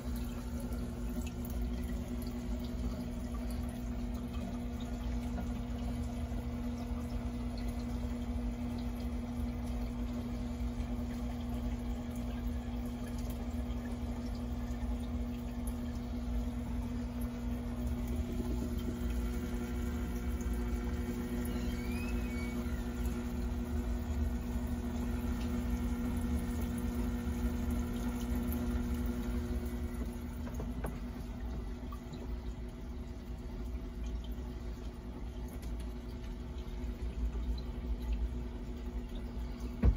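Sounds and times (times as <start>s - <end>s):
low pump hum: 0.0s - 39.9s
water trickling and splashing: 0.0s - 39.9s.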